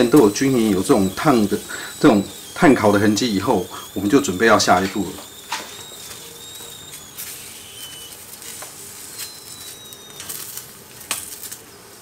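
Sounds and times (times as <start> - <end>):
beans sizzling on grill pan: 0.0 - 11.6.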